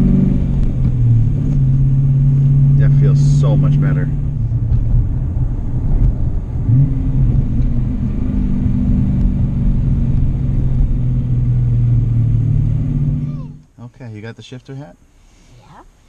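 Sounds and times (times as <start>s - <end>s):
car engine droning: 0.0s - 14.1s.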